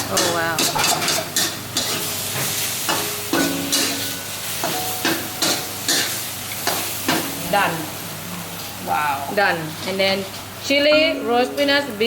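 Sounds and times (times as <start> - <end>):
steady sizzle: 0.0 - 12.0.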